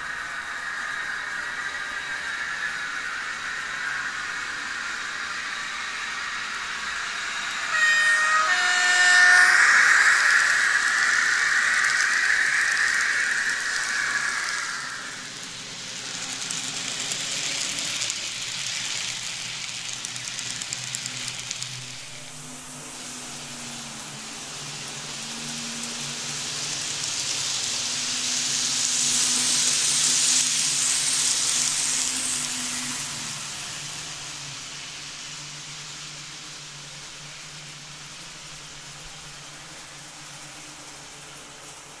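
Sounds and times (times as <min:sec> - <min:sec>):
low motor hum and hiss: 0:00.0 - 0:42.0
model train passing on rails: 0:00.0 - 0:42.0.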